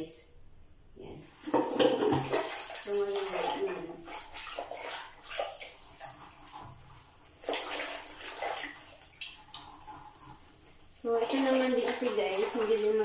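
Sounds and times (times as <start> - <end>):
water swishing in bowl: 1.0 - 13.0
scouring pad scrubbing toilet bowl: 1.2 - 13.0.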